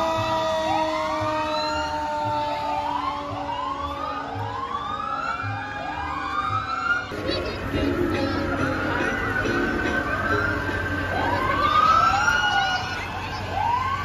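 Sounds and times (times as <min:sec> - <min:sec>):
steady siren tone: 0:00.1 - 0:07.2, 0:08.2 - 0:14.0
siren sweeping up in pitch: 0:00.7 - 0:07.1, 0:08.2 - 0:14.0.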